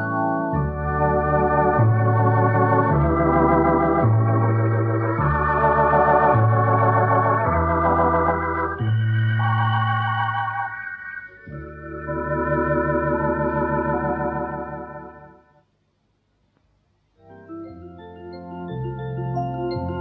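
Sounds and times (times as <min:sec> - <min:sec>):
electronic organ playing chords: 0:00.0 - 0:15.6, 0:17.3 - 0:20.0.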